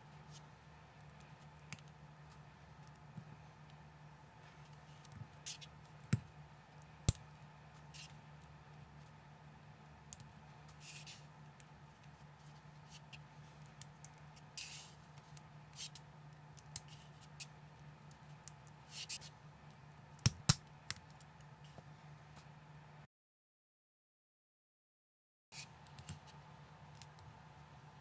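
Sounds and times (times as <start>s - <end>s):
low steady hum: 0.0s - 23.1s, 25.6s - 28.0s.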